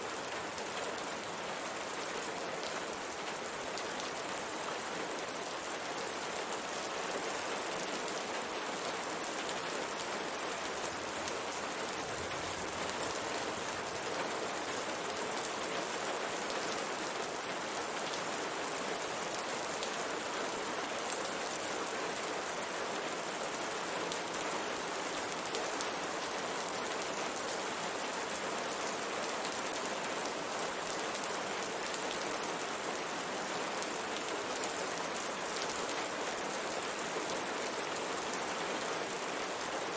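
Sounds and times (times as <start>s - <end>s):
rain pattering on a window: 0.1s - 39.9s.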